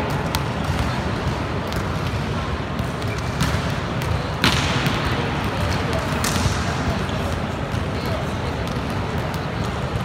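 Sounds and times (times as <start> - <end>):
sports hall noise: 0.0 - 10.0
volleyball bouncing on hard floor: 0.0 - 10.0.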